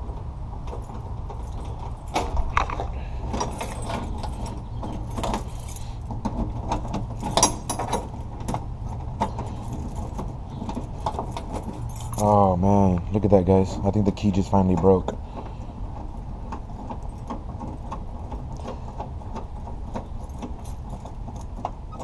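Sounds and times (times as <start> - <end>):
keys jangling: 0.7 - 12.6, 16.0 - 22.0.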